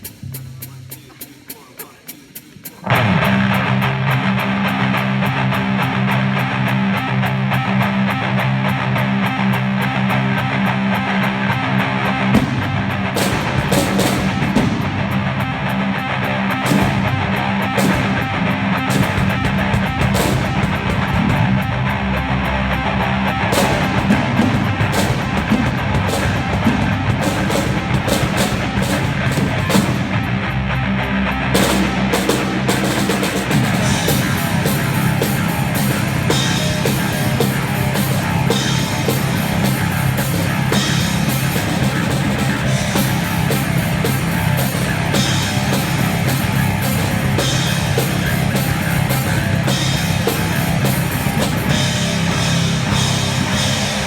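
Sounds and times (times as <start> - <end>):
rock band playing live: 2.5 - 54.0.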